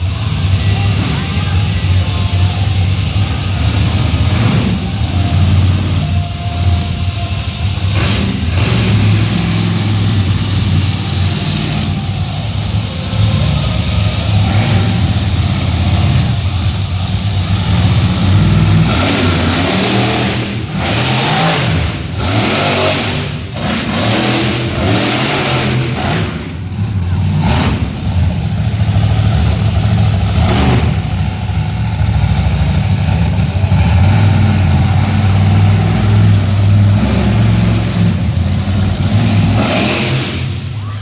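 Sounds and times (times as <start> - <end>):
truck engine revving: 0.0 - 41.0.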